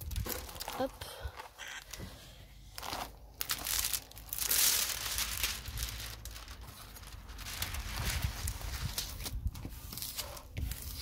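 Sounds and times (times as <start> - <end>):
plastic film crinkling: 0.0 - 2.0, 2.6 - 11.0.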